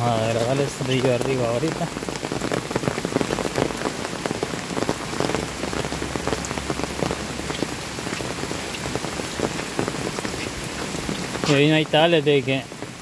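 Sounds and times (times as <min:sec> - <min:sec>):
close raindrop hits: 0:00.0 - 0:13.0
rain falling: 0:00.0 - 0:13.0.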